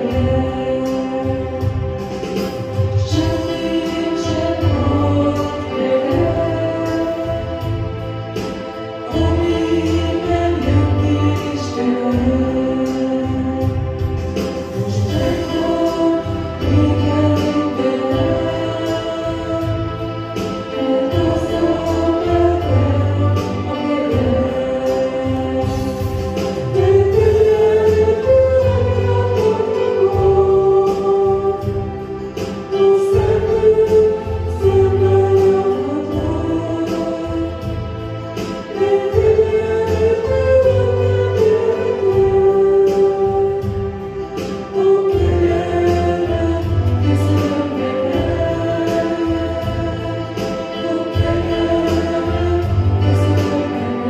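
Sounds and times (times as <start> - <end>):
group singing with band: 0.0 - 54.0.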